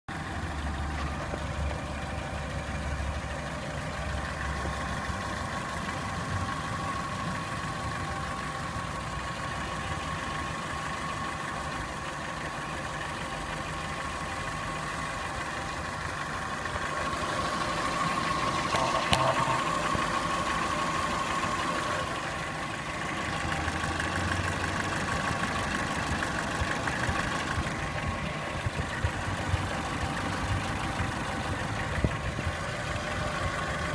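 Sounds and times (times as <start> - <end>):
petrol engine knocking: 0.1 - 33.9.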